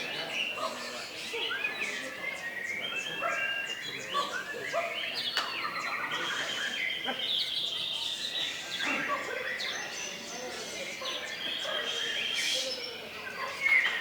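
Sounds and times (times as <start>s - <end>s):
murmur of voices: 0.0s - 14.0s
songbirds singing: 0.0s - 14.0s.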